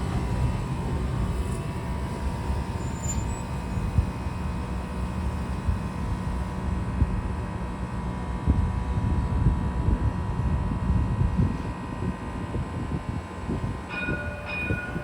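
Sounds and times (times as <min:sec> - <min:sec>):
streetcar rumbling on rails: 0:00.0 - 0:15.0.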